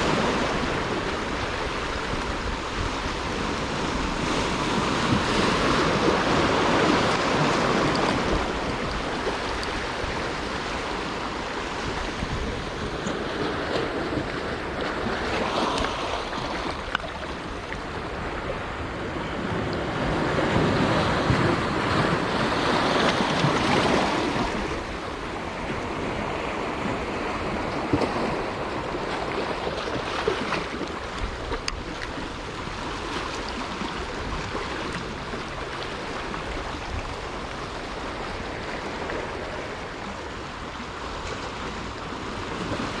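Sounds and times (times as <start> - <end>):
sea washing against shore: 0.0 - 43.0
wind on the microphone: 0.0 - 43.0.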